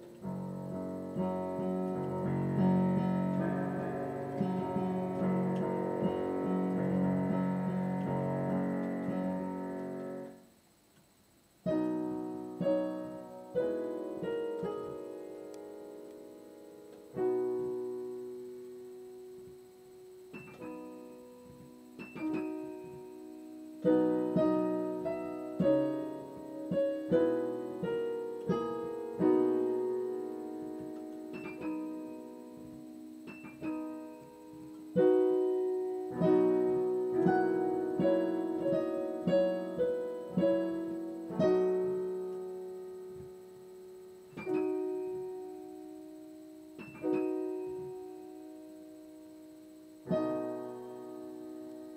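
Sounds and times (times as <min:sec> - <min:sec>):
solo piano classical piece: 0:00.0 - 0:51.9.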